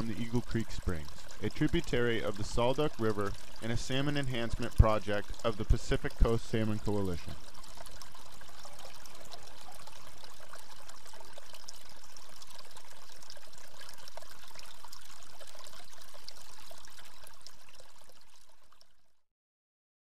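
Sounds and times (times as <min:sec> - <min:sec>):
water pouring and trickling: 0:00.0 - 0:19.2.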